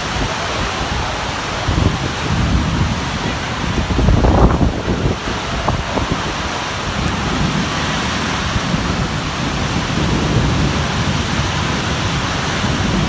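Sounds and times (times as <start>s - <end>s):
rain and wind hiss: 0.0s - 13.0s.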